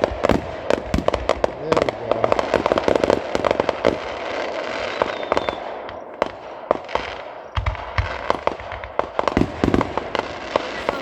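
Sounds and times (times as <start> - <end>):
deep firework boom: 0.0 - 11.0
fireworks crackling and popping: 0.0 - 11.0.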